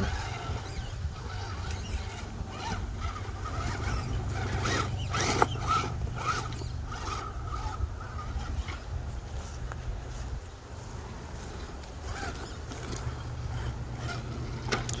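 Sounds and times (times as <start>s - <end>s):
rc car motor whining: 0.0s - 9.8s, 11.3s - 15.0s.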